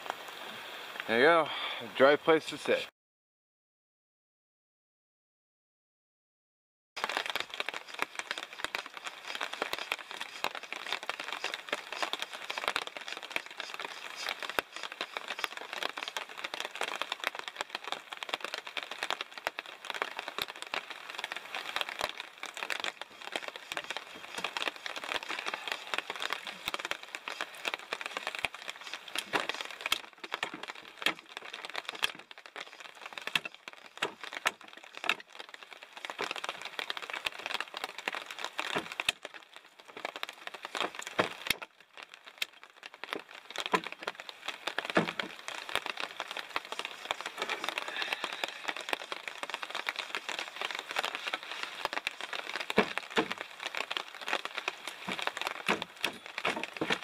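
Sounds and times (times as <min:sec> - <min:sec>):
rain pattering on a tarp: 0:00.0 - 0:02.9, 0:07.0 - 0:57.0.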